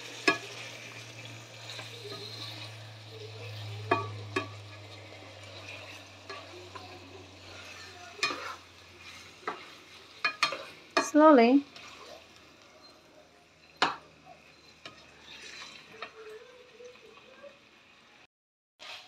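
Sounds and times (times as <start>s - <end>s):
spatula scraping pan: 0.0s - 12.9s, 13.6s - 16.6s
meat sizzling in a pan: 0.0s - 18.2s, 18.8s - 19.0s.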